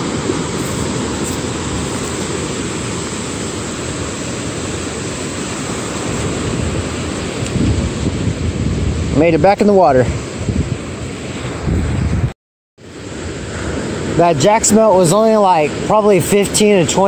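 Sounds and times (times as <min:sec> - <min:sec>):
wind on microphone: 0:00.0 - 0:15.0
ocean surf breaking on beach: 0:00.0 - 0:17.0.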